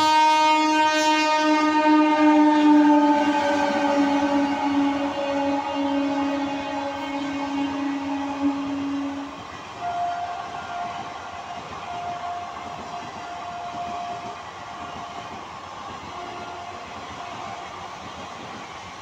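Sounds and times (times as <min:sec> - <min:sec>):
train wheels on rail: 0:00.0 - 0:19.0.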